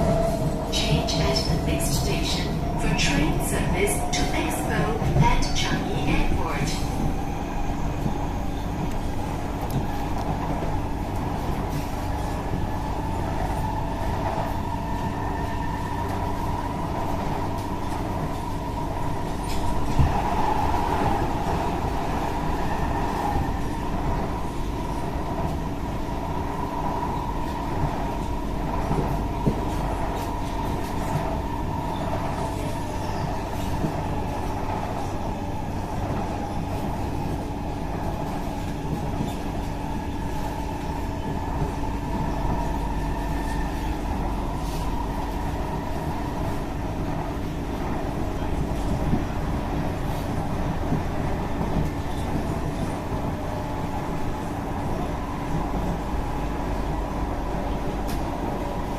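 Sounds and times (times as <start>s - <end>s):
constant train hum: 0.0s - 58.9s
train wheels rumbling on rail: 0.0s - 58.9s.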